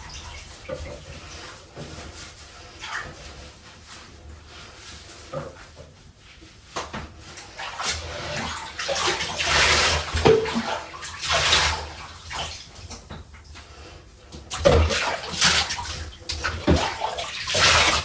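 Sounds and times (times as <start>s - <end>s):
water splashing in a bathtub: 0.0s - 18.0s.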